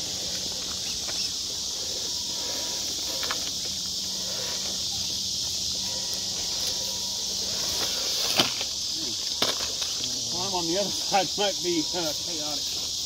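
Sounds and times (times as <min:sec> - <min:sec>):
night insects buzzing: 0:00.0 - 0:13.0.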